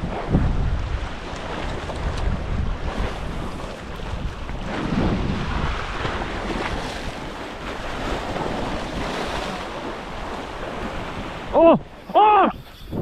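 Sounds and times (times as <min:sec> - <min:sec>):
surf washing against rocks: 0:00.0 - 0:13.0
wind buffeting microphone: 0:00.0 - 0:13.0.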